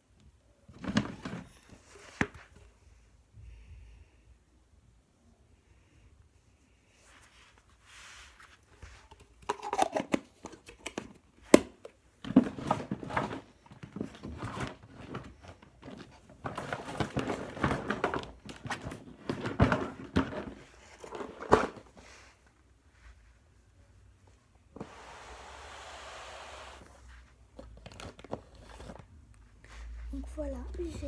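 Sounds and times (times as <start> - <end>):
rustling and handling noise: 0.0 - 3.2, 6.3 - 31.0.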